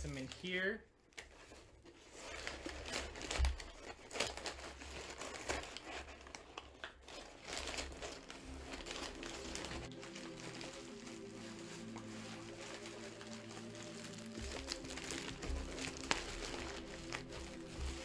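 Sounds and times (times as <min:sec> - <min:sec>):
paper crumpling: 0:01.2 - 0:18.0.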